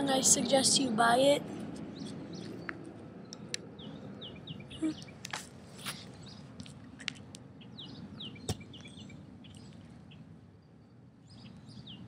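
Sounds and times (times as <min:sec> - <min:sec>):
small birds chirping: 0:01.8 - 0:12.0.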